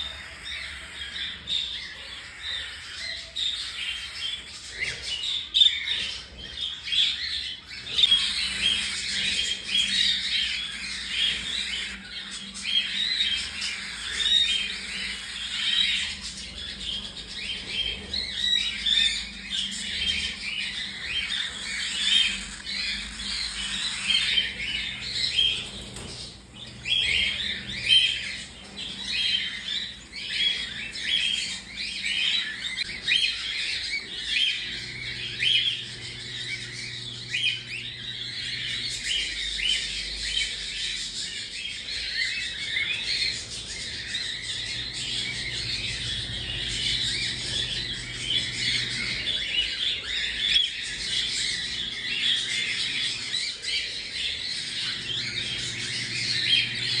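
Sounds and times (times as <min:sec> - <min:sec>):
bird chicks calling: 0:00.0 - 0:57.0.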